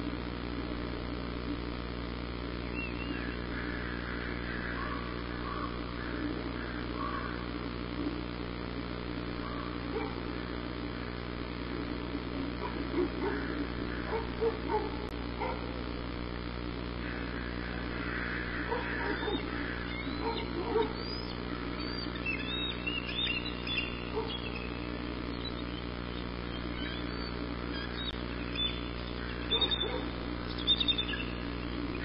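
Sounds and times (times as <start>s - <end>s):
steady low hum: 0.0s - 32.0s
birds chirping: 2.5s - 8.2s, 9.1s - 15.7s, 17.0s - 32.0s.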